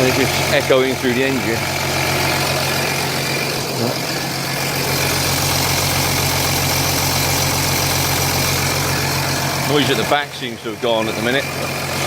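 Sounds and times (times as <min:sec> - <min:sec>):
diesel engine idling with rattle: 0:00.0 - 0:12.0.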